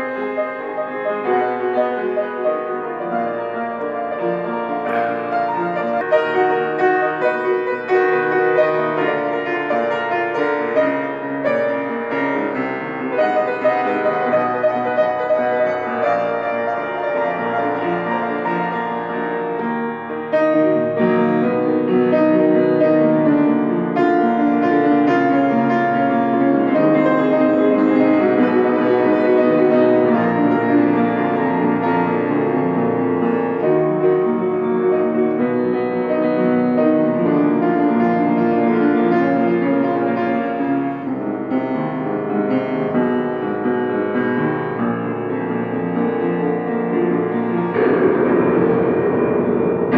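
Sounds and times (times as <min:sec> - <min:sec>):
solo piano playing chords: 0:00.0 - 0:49.9.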